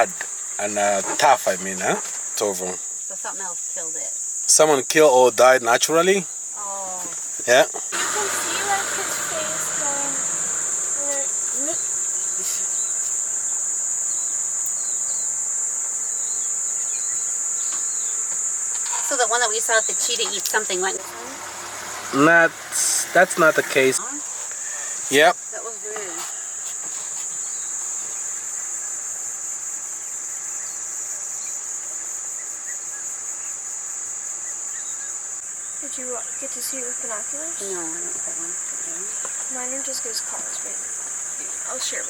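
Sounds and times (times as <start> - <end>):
insects droning: 0.0 - 42.0.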